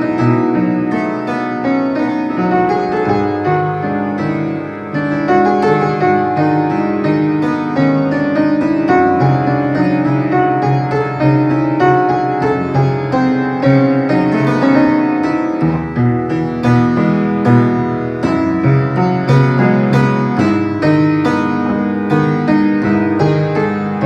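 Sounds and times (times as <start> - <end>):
solo piano piece: 0.0 - 24.0.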